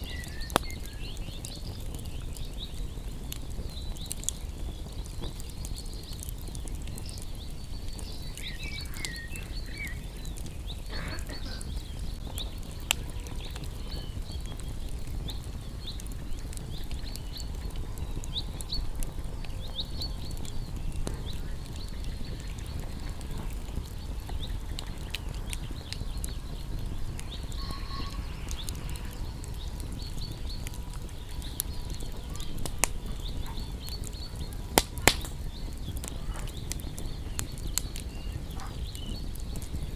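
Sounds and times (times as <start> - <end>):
songbirds chirping: 0.0 - 39.9
wood fire crackling: 0.0 - 39.9.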